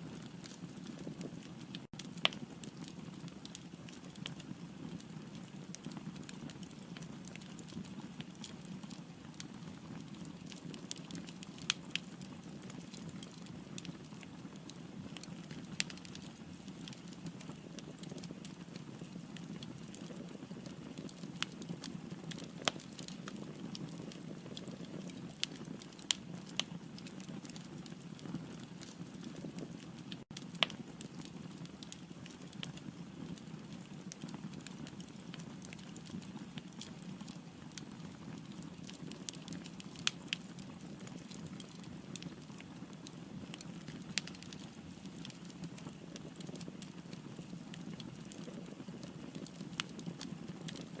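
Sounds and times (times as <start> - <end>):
firewood crackling and popping: 0.0 - 51.0.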